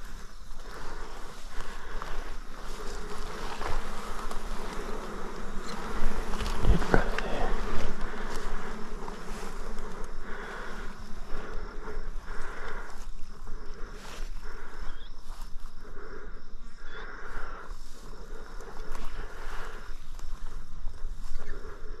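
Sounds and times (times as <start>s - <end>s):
flying insects buzzing: 0.0s - 22.0s.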